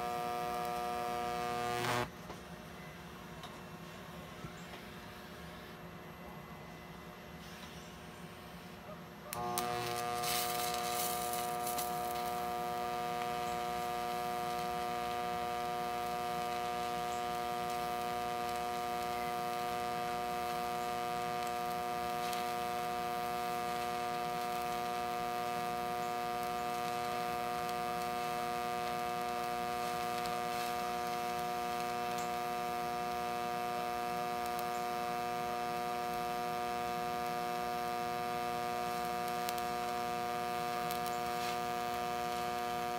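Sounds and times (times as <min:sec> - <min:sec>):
welding arc buzzing: 0:00.0 - 0:02.2, 0:06.9 - 0:42.9
welding arc crackle: 0:00.0 - 0:02.3, 0:07.6 - 0:42.9.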